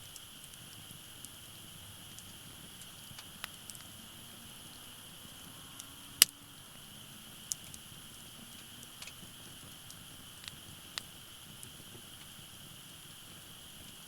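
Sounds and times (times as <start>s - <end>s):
fire popping: 0.0s - 14.0s
firewood crackling: 0.0s - 14.0s.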